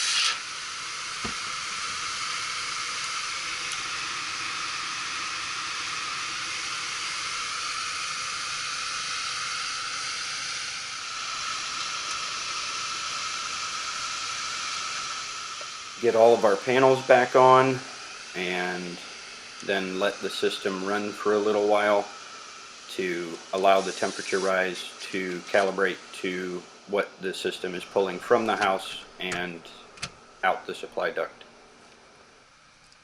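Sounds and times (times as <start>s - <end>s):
air blower rushing hiss: 0.0s - 33.0s.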